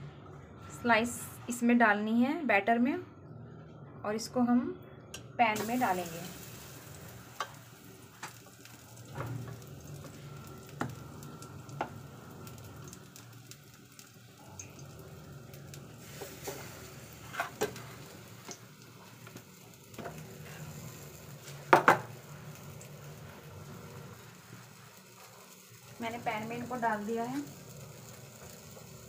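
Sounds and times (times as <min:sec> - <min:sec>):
hot pan sizzling: 0:05.5 - 0:29.0.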